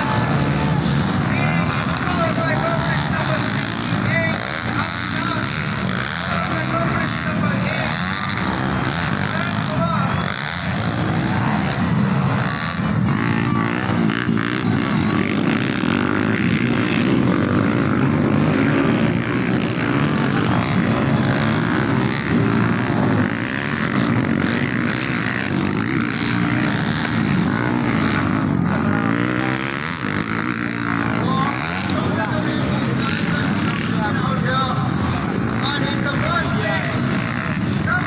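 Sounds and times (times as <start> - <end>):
racing motorcycle engines revving: 0.0 - 38.0.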